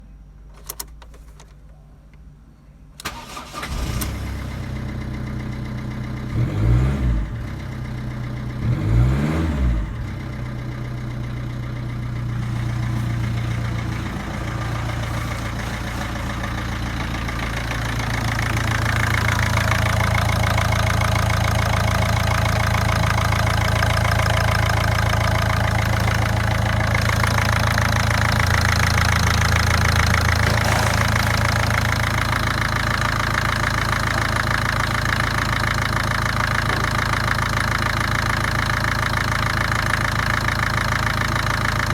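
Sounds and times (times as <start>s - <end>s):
diesel engine starting and revving: 3.0s - 41.9s.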